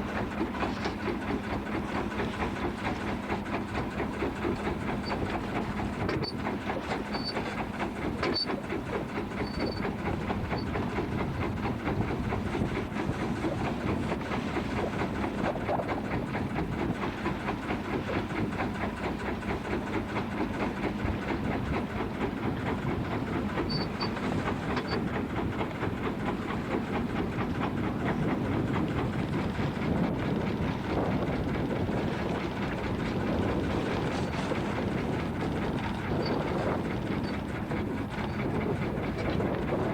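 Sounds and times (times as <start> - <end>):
boat engine knocking: 0.0 - 39.9.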